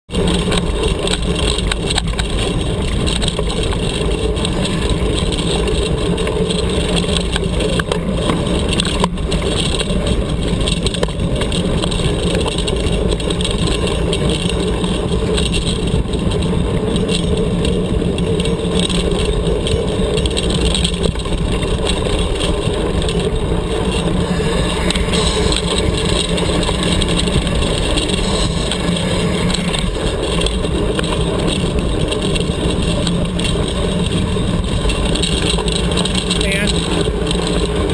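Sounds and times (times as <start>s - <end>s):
bike tyres rumbling on gravel: 0.1s - 37.9s.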